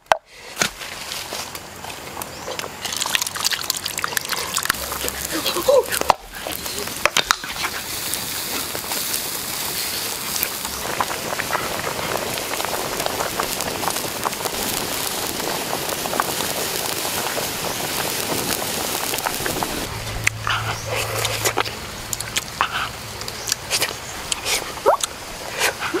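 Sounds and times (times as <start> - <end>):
meat sizzling in sauce: 2.9 - 25.6.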